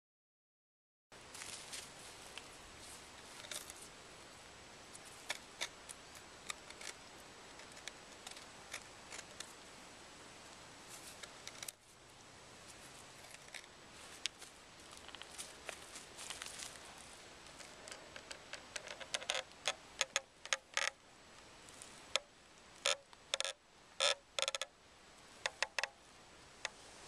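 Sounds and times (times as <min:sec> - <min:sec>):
faint steady hiss: 0:01.1 - 0:27.0.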